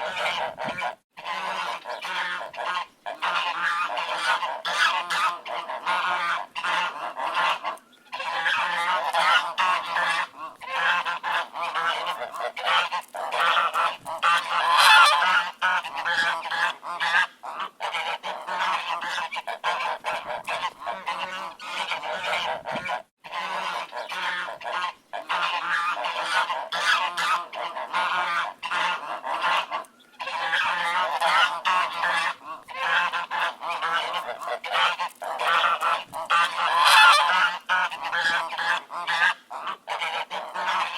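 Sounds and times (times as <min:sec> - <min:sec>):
flock of ducks quacking: 0:00.0 - 0:40.9.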